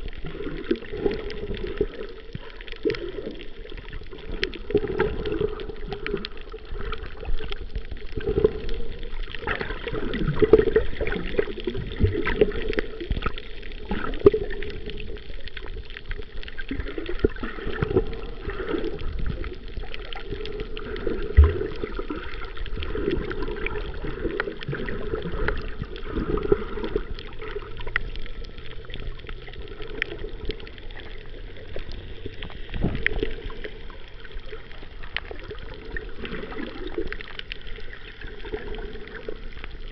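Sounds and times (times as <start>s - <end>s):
small clicks and crackles: 0.0s - 39.9s
underwater sloshing and gurgling: 0.0s - 39.9s.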